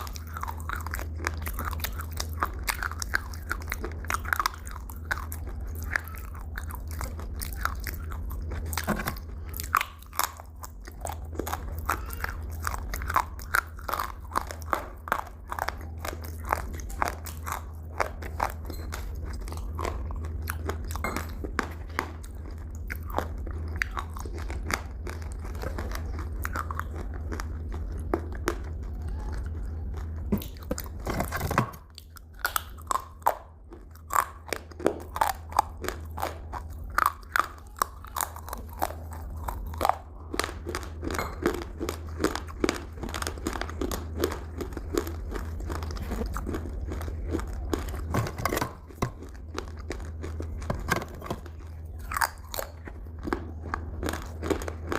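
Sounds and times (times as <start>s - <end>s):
chewing crunchy food: 0.0s - 54.9s
steady low hum: 0.0s - 54.9s.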